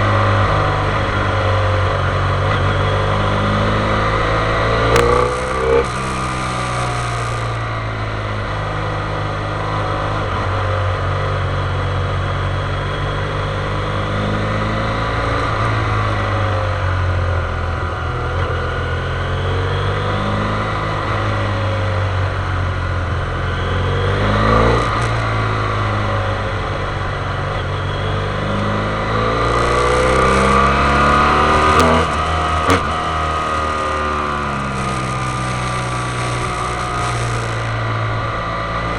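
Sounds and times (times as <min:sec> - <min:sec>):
motorcycle engine revving: 0:00.0 - 0:10.7, 0:13.6 - 0:38.9.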